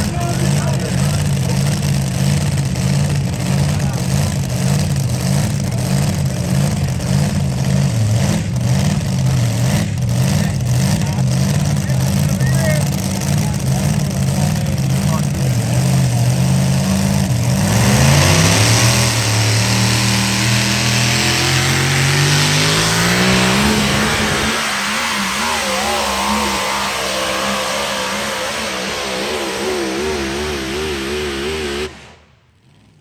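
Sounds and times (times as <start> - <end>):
truck engine at full throttle: 0.0 - 33.0.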